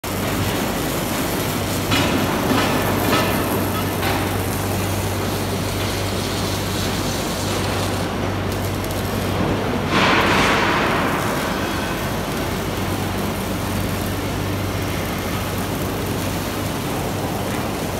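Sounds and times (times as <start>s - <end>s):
constant low hum: 0.1s - 17.9s
welding arc hissing: 0.1s - 17.9s.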